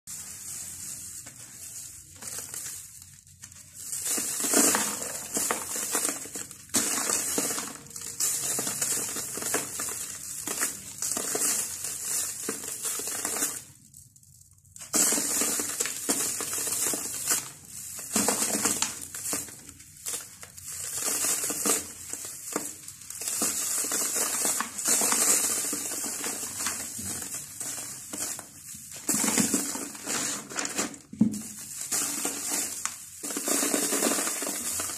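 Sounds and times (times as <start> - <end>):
grains spilling into plastic tub: 0.1 - 34.9
blocks crumbling with crackling crunch: 2.0 - 34.9.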